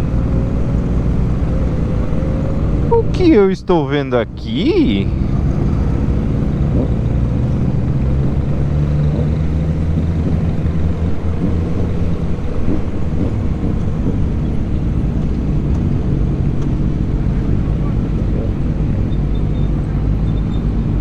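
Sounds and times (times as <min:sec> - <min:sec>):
motorcycle engine running: 0:00.0 - 0:21.0
road noise: 0:00.0 - 0:21.0.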